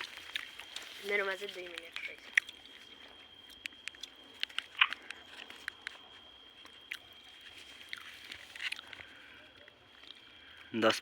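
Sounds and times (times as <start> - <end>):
person chewing corn: 0.0 - 1.0, 1.7 - 10.6.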